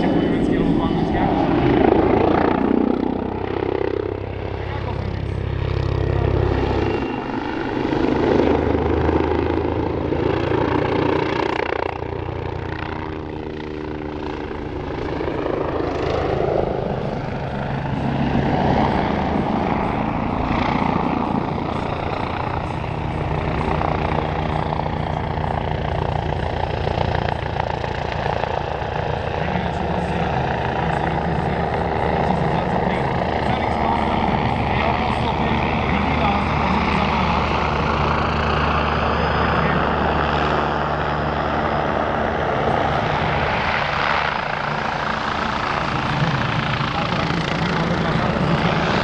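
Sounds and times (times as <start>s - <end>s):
helicopter rotor beating: 0.0s - 49.0s
turbine noise: 0.0s - 49.0s.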